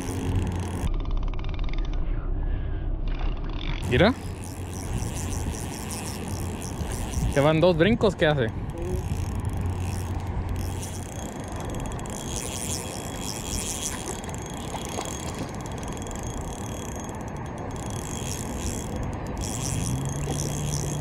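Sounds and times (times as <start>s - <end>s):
fishing reel whirring and clicking: 0.0s - 1.3s, 3.6s - 21.0s.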